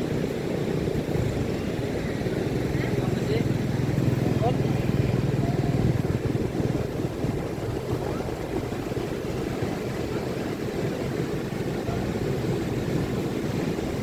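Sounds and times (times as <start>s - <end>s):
surf breaking on a beach: 0.0s - 14.0s.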